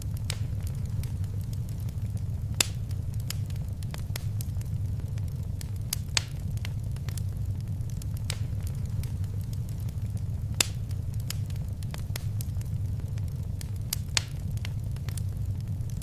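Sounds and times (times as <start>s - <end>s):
fire popping and snapping: 0.0s - 16.0s
low rumble of flames: 0.0s - 16.0s.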